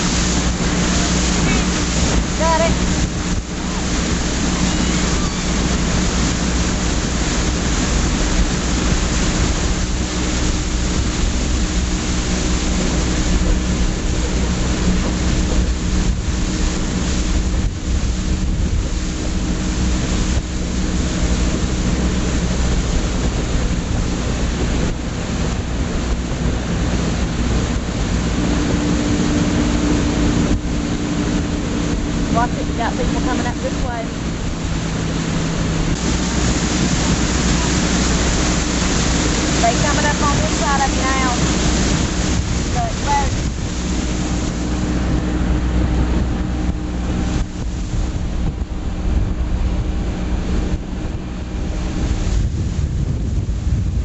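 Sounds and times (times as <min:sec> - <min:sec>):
motorboat engine running: 0:00.0 - 0:54.0
water rushing: 0:00.0 - 0:54.0
wind buffeting microphone: 0:00.0 - 0:54.0.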